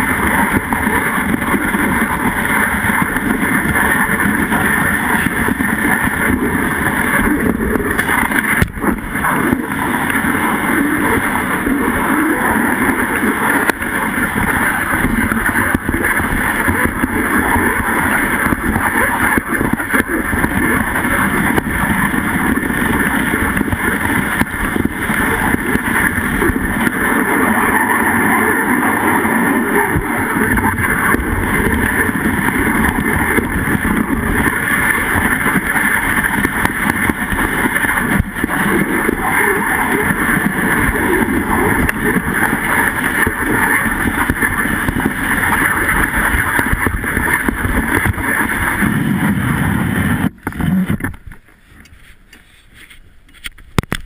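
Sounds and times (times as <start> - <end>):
sled runners scraping snow: 0.0 - 51.0, 51.6 - 53.5
wind rumbling on microphone: 0.0 - 51.9.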